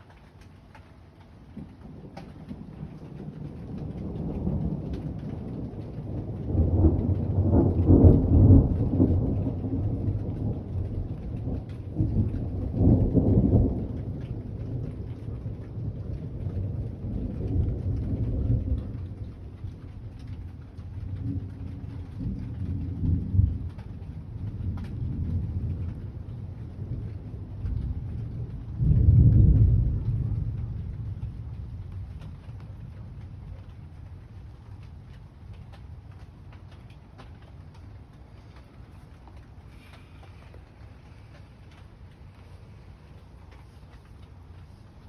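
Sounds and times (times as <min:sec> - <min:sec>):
faint rain patter: 0:00.0 - 0:45.0
thunder rolling and rumbling: 0:00.0 - 0:45.0.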